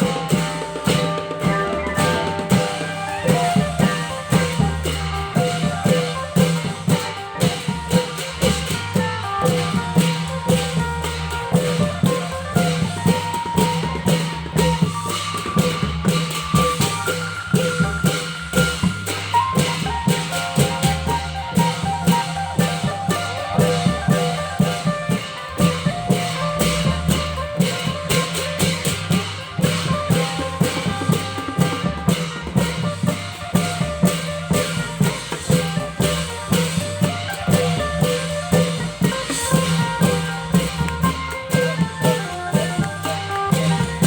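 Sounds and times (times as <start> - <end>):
held melodic line: 0.0 - 44.0
long-drum ensemble playing: 0.0 - 44.0.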